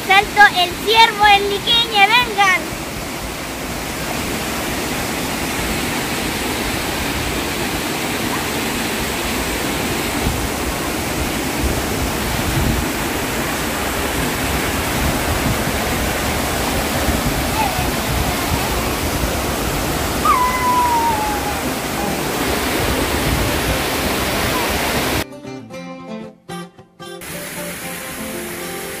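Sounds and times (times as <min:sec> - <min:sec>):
waterfall and stream rushing: 0:00.0 - 0:25.2, 0:27.2 - 0:29.0.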